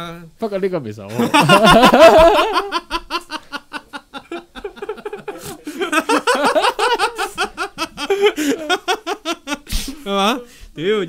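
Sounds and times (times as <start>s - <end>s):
men laughing hard: 1.1s - 10.1s.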